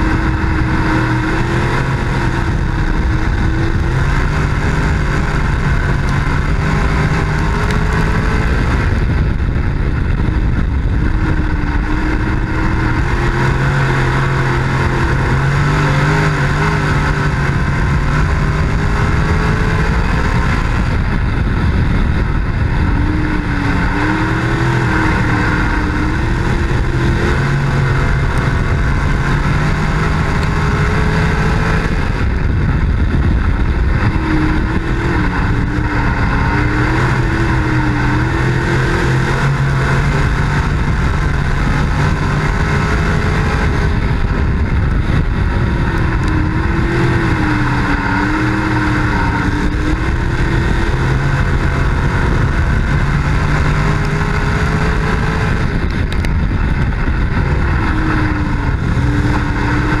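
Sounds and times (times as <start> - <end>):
race car engine running hard: 0.0 - 60.0.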